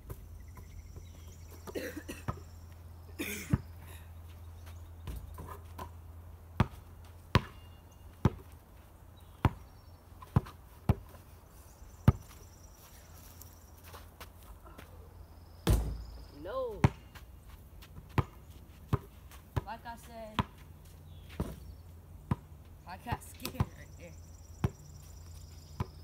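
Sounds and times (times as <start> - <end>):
basketball bouncing on dirt: 0.0 - 2.8, 3.4 - 11.2, 12.0 - 12.5, 15.6 - 26.0.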